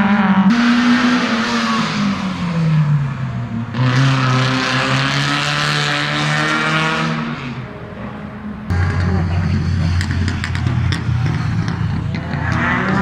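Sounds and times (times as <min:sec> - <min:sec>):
rally car engine at speed: 0:00.0 - 0:13.0.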